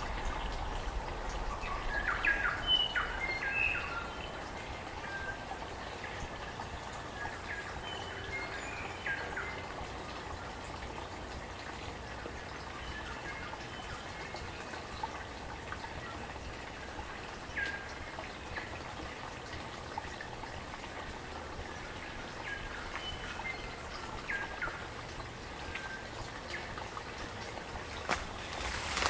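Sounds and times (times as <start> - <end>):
stream trickling and gurgling: 0.0 - 29.0.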